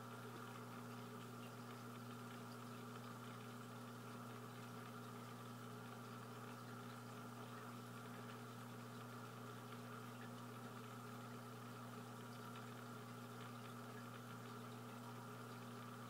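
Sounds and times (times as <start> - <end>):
aquarium pump humming: 0.0 - 16.0.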